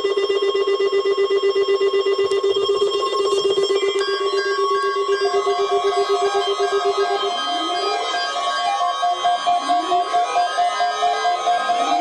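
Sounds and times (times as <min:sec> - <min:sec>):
pulsing electronic alarm tone: 0:00.0 - 0:12.0.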